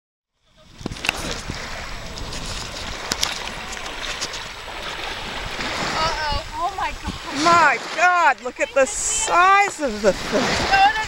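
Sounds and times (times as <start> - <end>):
water lapping over pebbles: 0.5 - 11.0.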